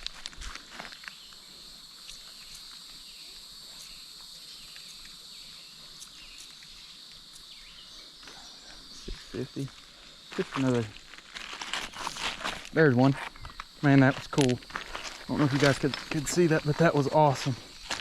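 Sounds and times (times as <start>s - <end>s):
insect chorus buzzing: 0.0s - 18.0s.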